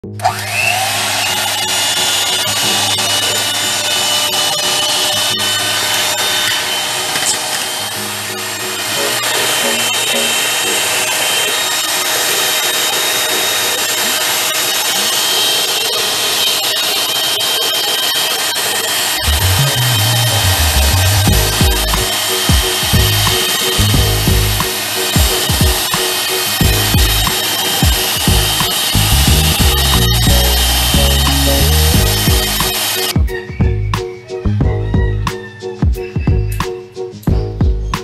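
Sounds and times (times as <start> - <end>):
background music: 0.0 - 16.6, 18.5 - 38.0
electric hand mixer whining: 0.0 - 33.8.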